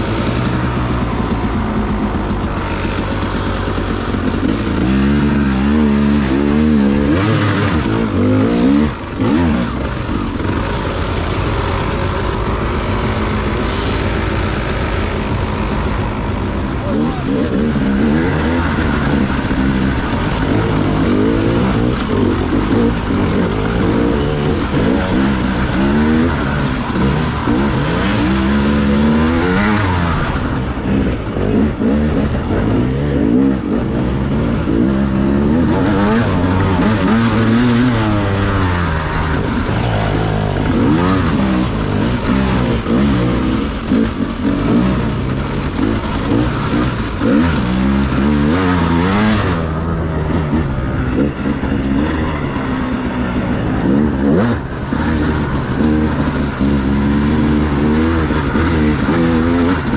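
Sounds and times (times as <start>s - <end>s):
road and wind noise: 0.0s - 59.9s
vehicle engine revving: 0.0s - 59.9s.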